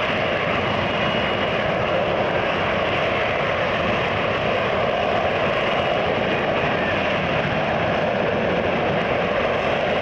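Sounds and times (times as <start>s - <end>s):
jet engine rushing: 0.0s - 10.0s.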